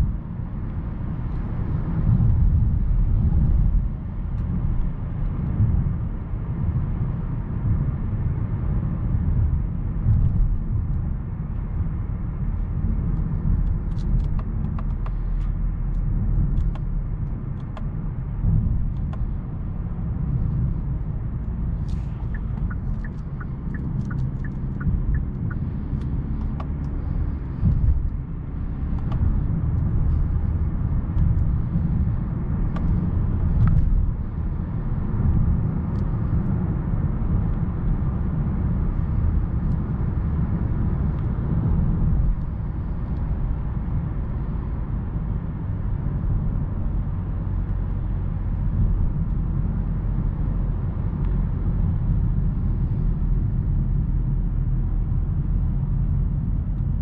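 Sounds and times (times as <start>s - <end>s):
car road and running noise: 0.0s - 57.0s.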